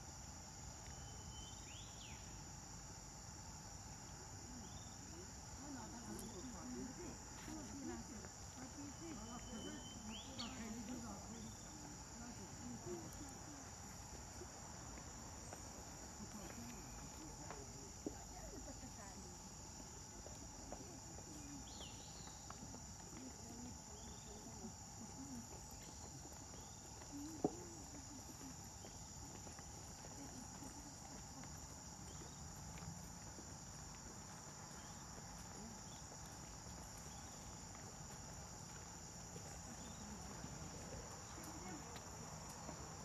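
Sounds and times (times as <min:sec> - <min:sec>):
high-pitched insect chorus: 0:00.0 - 0:43.0.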